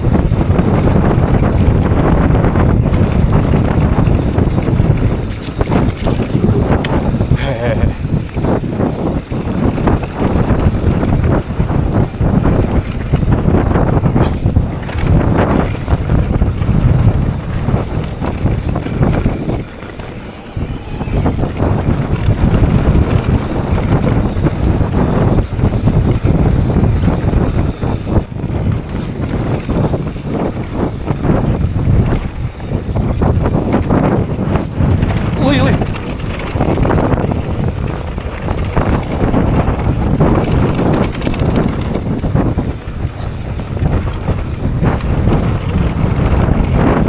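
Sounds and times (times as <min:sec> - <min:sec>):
bike knocks and rattles: 0:00.0 - 0:47.0
wind buffeting microphone: 0:00.0 - 0:47.0.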